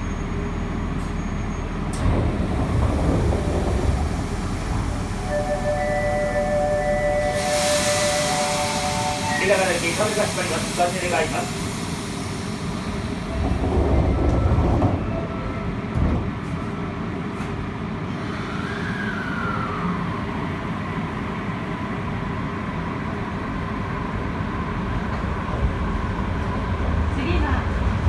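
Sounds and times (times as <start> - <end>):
subway car running noise: 0.0 - 28.0
train inverter whine: 0.0 - 28.0.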